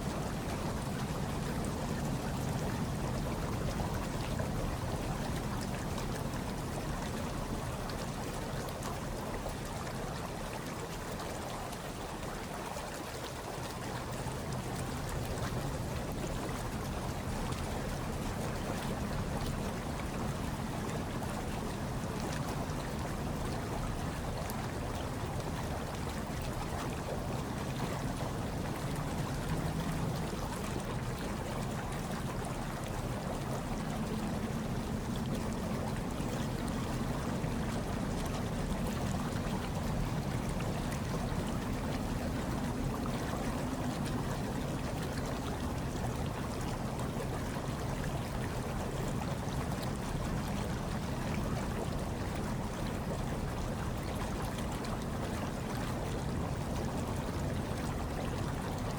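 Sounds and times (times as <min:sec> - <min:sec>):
hot tub water bubbling: 0:00.0 - 0:58.9.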